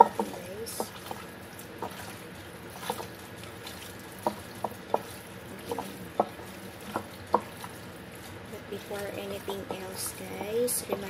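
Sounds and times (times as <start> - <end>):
wet squelches of mixing meat: 0.0 - 11.0.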